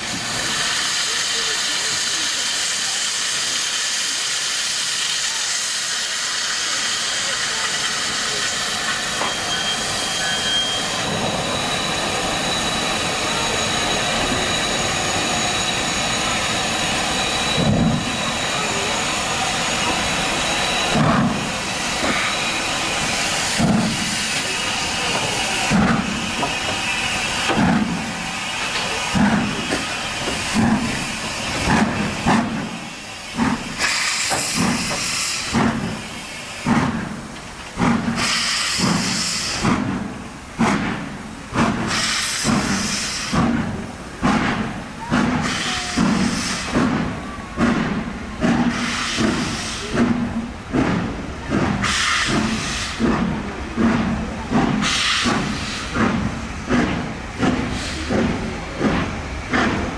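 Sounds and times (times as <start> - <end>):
steam hissing: 0.0 - 59.9
steam locomotive exhaust beats: 0.0 - 59.9.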